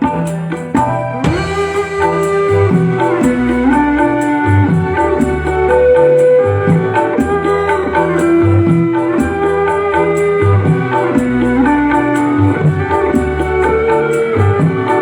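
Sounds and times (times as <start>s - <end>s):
instrumental music with beat: 0.0s - 15.0s.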